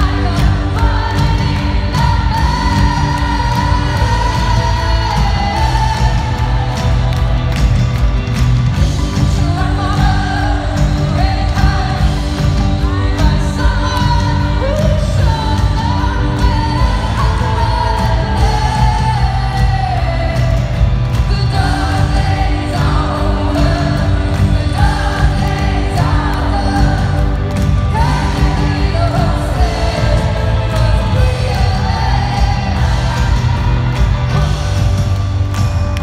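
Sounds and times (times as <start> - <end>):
woman singing: 0.0 - 7.3, 9.0 - 34.6
live band with heavy beat: 0.0 - 36.0.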